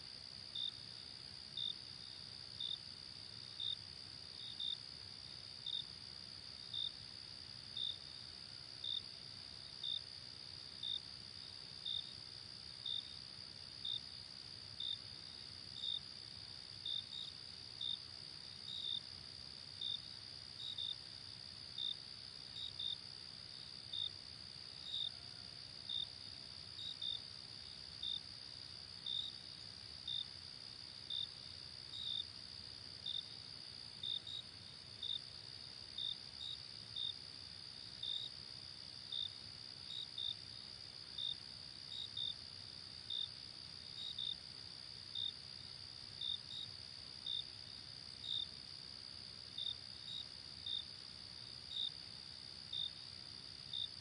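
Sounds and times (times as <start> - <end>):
faint background hiss: 0.0 - 54.0
insect chirping: 0.0 - 54.0.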